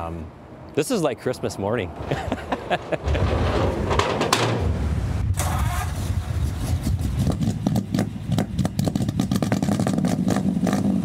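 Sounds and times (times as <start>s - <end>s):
fire truck engine rumbling: 1.8s - 11.0s.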